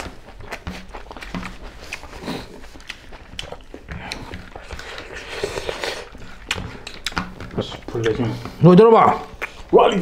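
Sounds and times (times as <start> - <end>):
chewing and mouth smacking: 0.0 - 10.0.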